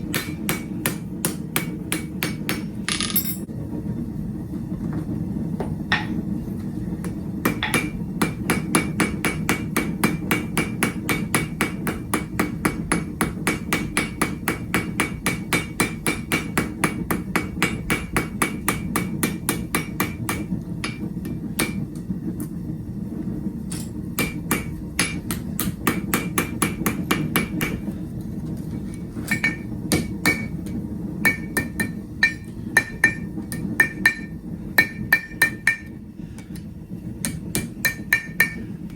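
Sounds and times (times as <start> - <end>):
hammer striking steel on anvil: 0.0 - 3.5, 5.9 - 6.2, 7.4 - 21.8, 23.7 - 27.9, 29.2 - 38.7
steady low hum: 0.0 - 38.9.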